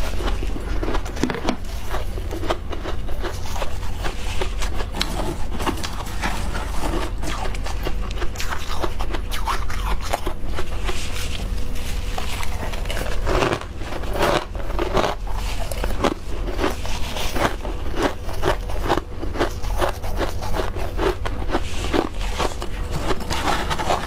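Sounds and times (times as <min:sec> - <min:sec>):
chewing and crunching frost: 0:00.0 - 0:24.0
steady low hum: 0:00.0 - 0:24.0.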